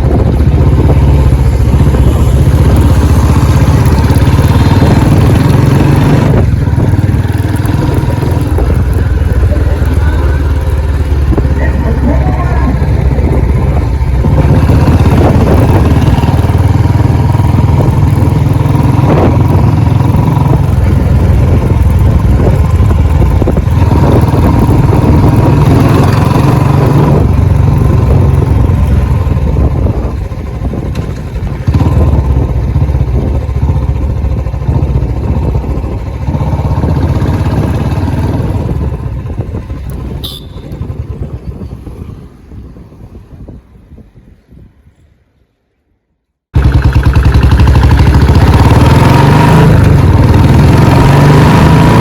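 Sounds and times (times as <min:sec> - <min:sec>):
motorcycle engine running: 0:00.0 - 0:44.7, 0:46.5 - 0:52.0.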